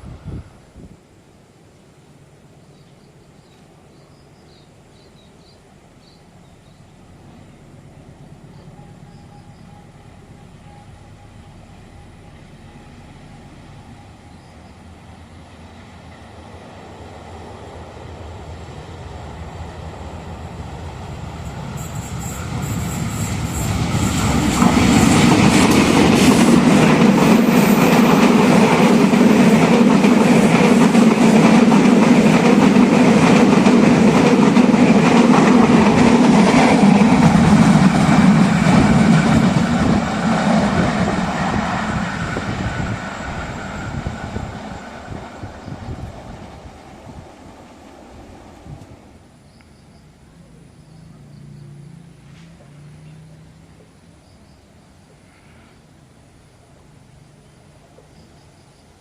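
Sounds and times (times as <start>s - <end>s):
train passing: 0.0s - 59.0s.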